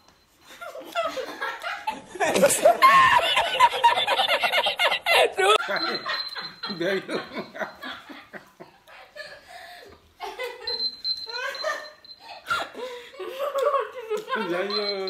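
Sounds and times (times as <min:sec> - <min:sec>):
girl laughing: 0:00.6 - 0:14.7.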